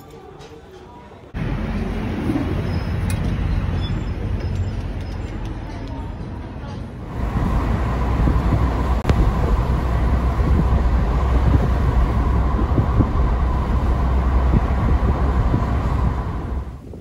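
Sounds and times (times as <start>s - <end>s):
moving vehicle rumble: 1.3s - 17.0s.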